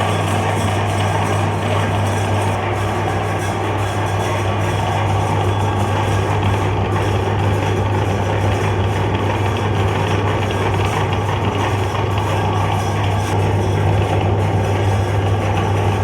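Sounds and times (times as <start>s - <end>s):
electric meat grinder running: 0.0s - 16.0s.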